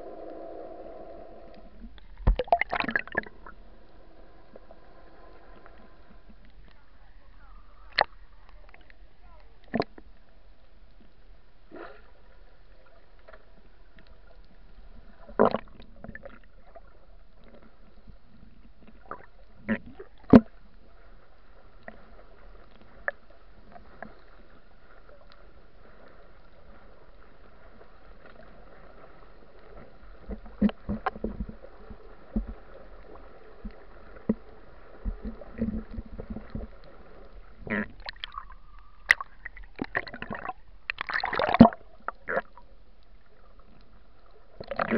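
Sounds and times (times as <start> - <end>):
water splashing: 0.0 - 10.2, 13.1 - 17.9, 18.8 - 44.9
faint underwater hum: 0.0 - 44.9.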